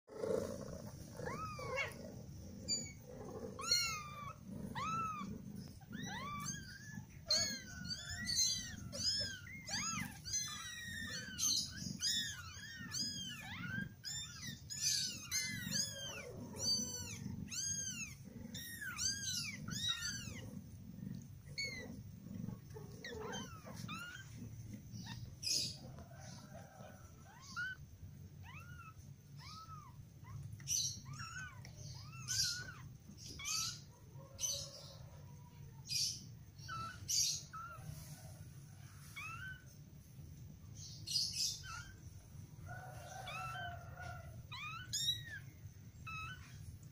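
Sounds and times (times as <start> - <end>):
kittens mewing: 0.0 - 40.0, 40.8 - 46.9.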